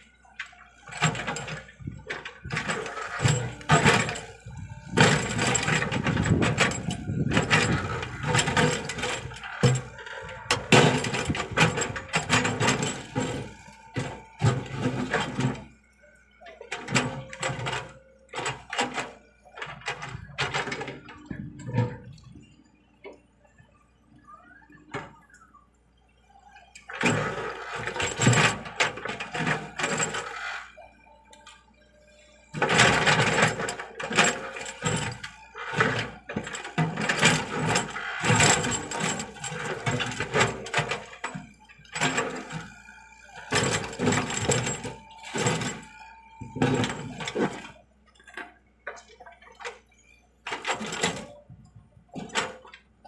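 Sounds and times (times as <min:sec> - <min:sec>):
excavator clattering and scraping: 0:00.0 - 0:53.0.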